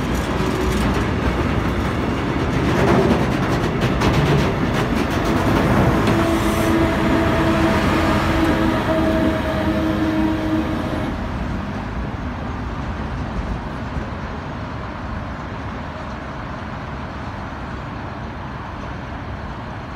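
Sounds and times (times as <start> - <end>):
diesel locomotive engine droning: 0.0 - 19.9
train rumble: 0.0 - 19.9.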